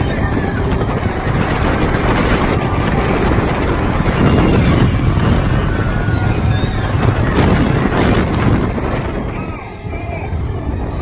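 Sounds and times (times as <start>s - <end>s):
roller coaster wheels rumbling: 0.0s - 11.0s
wind on microphone: 0.0s - 11.0s.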